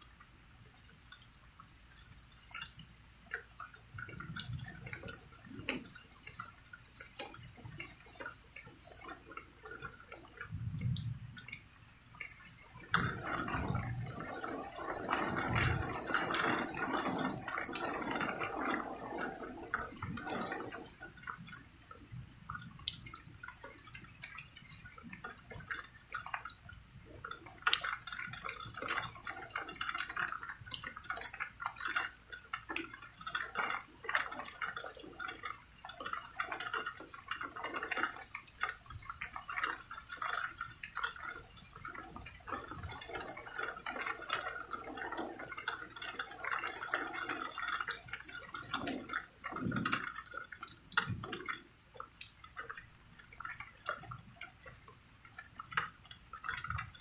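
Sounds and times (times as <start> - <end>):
rain dripping and pattering: 0.0 - 57.0.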